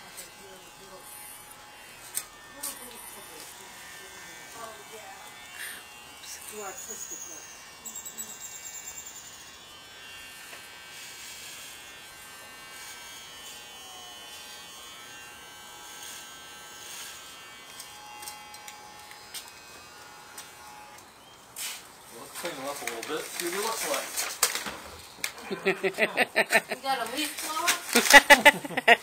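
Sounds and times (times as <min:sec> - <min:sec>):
electric hair clippers buzzing: 0:00.0 - 0:21.2, 0:25.5 - 0:29.0.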